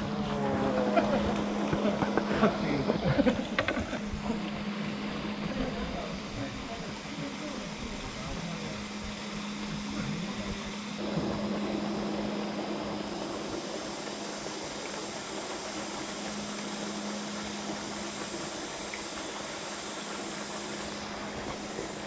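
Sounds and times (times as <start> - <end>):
motor humming: 0.0 - 22.0
outdoor noise hiss: 0.0 - 22.0.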